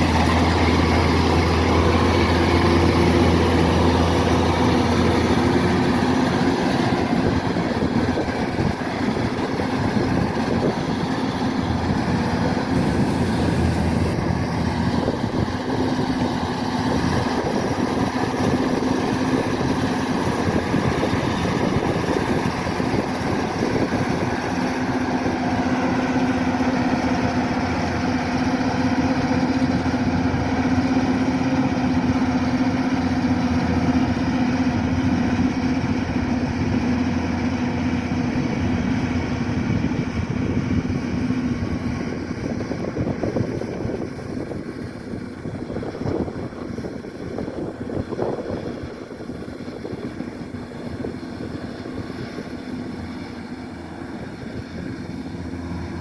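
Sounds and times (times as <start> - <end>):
combine harvester engine hum: 0.0 - 56.0
rough machine noise: 0.0 - 56.0.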